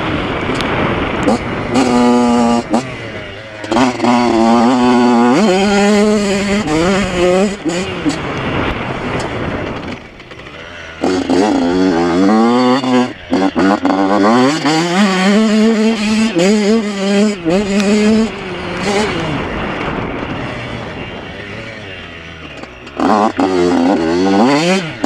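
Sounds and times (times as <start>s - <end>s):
motorcycle engine revving and shifting: 0.0s - 25.0s.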